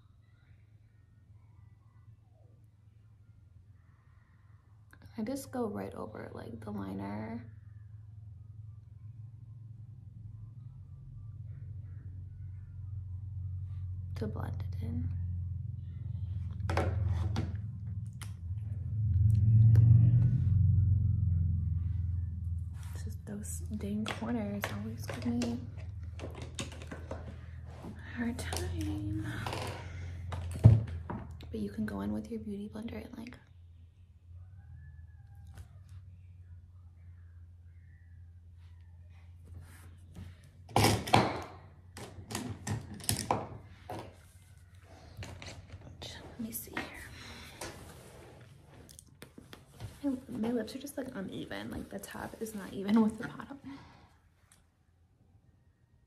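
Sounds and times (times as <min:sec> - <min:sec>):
low steady rumble: 0:00.0 - 0:56.0.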